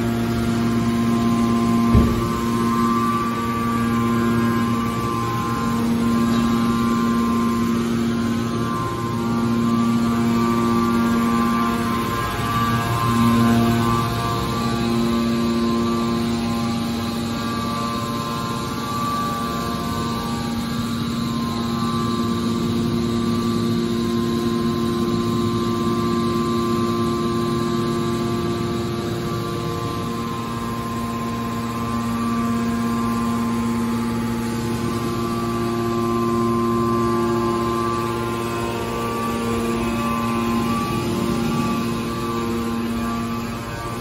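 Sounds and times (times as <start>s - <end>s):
baler motor and pump humming: 0.0s - 44.0s.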